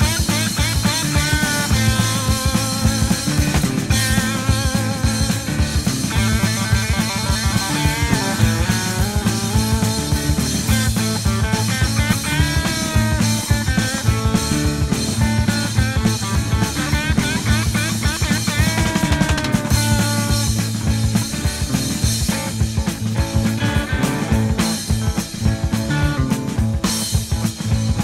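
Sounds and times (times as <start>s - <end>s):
bass guitar: 0.0s - 28.0s
drum kit: 0.0s - 28.0s
lead electric guitar: 0.0s - 28.0s.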